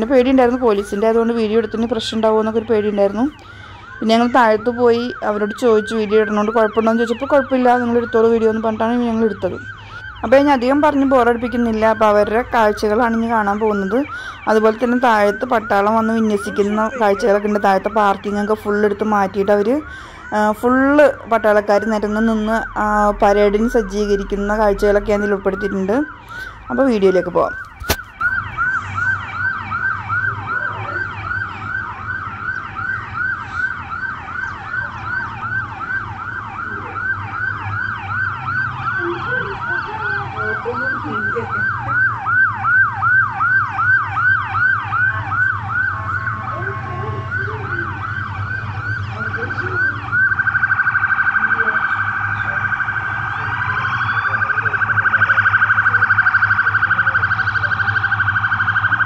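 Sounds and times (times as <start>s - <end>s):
police sirens wailing: 0.0s - 59.0s.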